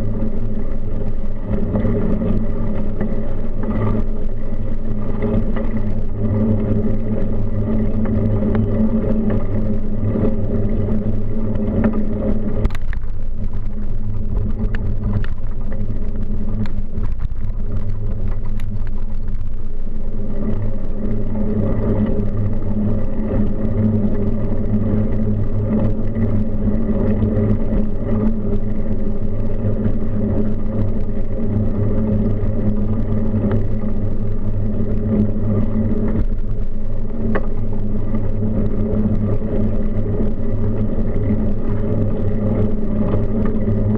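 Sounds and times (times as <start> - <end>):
bicycle tyre and road noise: 0.0 - 43.9.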